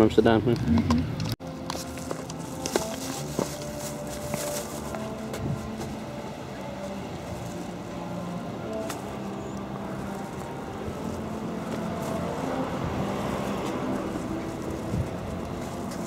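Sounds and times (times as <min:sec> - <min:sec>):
outdoor noise rushing: 0:00.0 - 0:16.0
distant brass band playing: 0:00.7 - 0:16.0.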